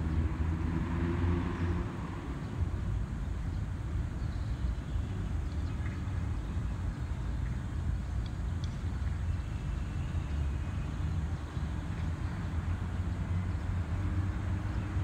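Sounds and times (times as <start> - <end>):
low rumble of city traffic: 0.0 - 15.0.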